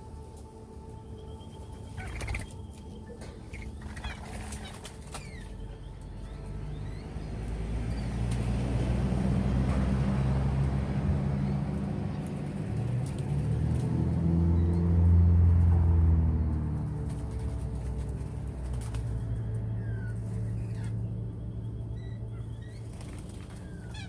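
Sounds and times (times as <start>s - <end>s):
birds chirping: 0.0s - 24.0s
low music drone: 0.0s - 24.0s.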